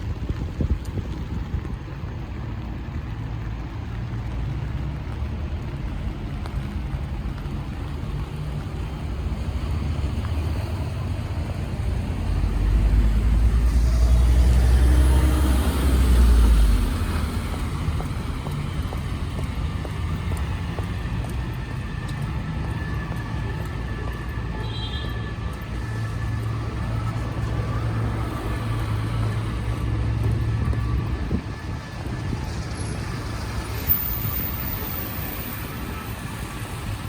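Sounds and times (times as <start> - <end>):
heavy vehicle engine rumble: 0.0 - 37.0
rain: 0.0 - 37.0
traffic hum: 0.0 - 37.0.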